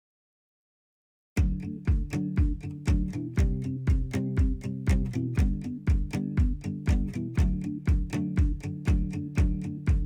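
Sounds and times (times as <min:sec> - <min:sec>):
kick drum: 0:01.4 - 0:10.0.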